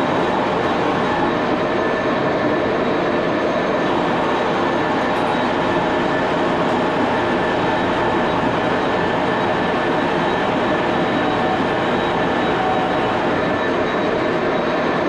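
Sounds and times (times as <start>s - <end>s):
faint steady whining tones: 0.0s - 15.0s
lathe mechanical drone: 0.0s - 15.0s.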